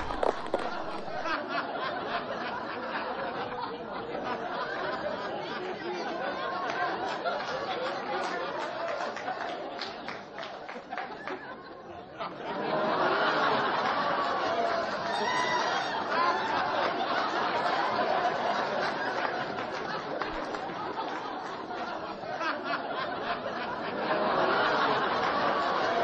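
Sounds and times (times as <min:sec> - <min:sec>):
many voices chattering: 0:00.0 - 0:26.0.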